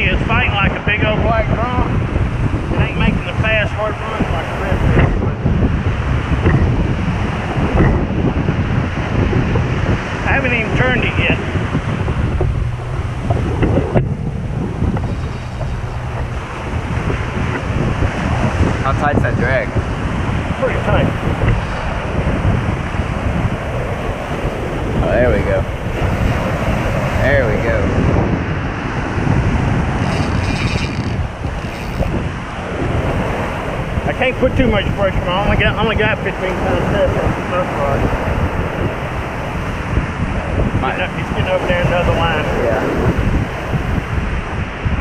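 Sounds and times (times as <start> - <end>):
small waves breaking on beach: 0.0 - 13.3, 14.6 - 45.0
wind buffeting microphone: 0.0 - 45.0.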